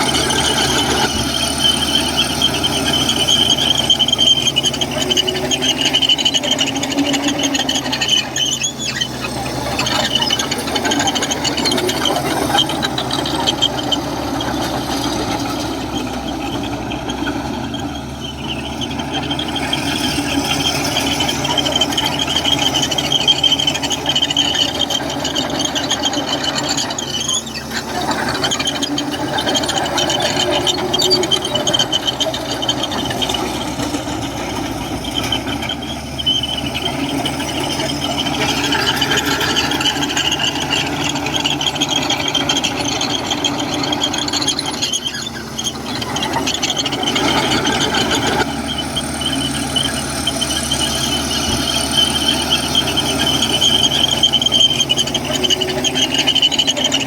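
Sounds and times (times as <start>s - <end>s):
bulldozer tracks squealing: 0.0s - 57.0s
diesel engine running: 0.0s - 57.0s.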